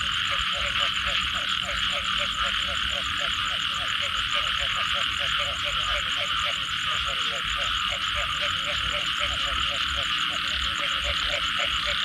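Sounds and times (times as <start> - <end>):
frogs croaking: 0.0 - 12.0
high-pitched frog din: 0.0 - 12.0.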